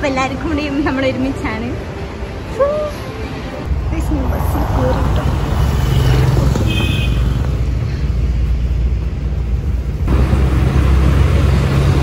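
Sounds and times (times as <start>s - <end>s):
road noise: 0.0s - 12.0s
bus engine drone: 1.6s - 12.0s.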